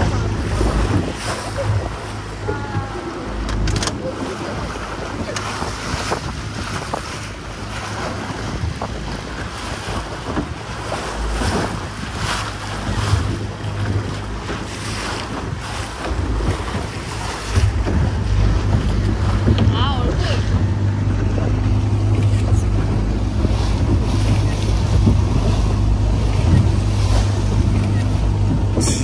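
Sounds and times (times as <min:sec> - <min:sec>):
motorboat engine drone: 0:00.0 - 0:29.0
water splashing along hull: 0:00.0 - 0:29.0
wind buffeting microphone: 0:00.0 - 0:29.0.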